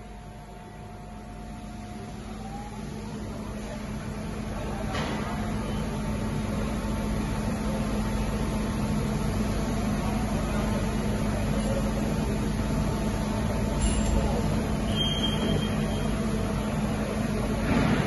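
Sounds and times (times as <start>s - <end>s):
lathe machining hum and hiss: 0.0s - 18.0s.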